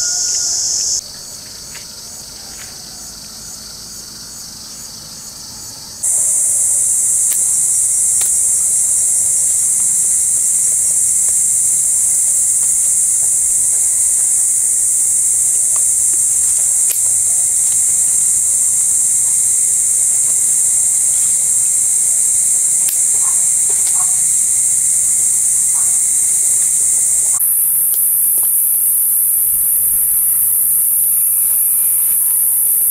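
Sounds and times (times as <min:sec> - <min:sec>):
high-pitched insect drone: 0:00.0 - 0:32.9.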